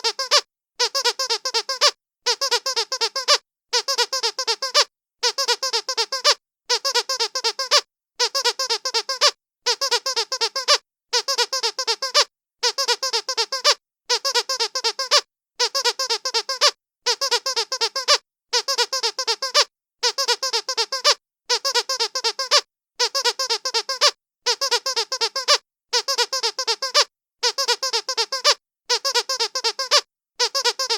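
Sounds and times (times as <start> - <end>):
squeaky rubber duck toy: 0.0 - 30.9.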